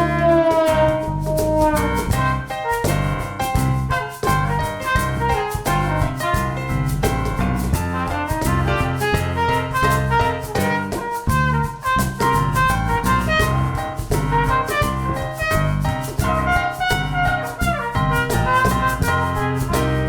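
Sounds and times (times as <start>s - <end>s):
horn or saxophone melody: 0.0s - 7.0s, 7.7s - 20.0s
upbeat jazzy band music: 0.0s - 20.0s
drum kit steady beat: 1.0s - 20.0s.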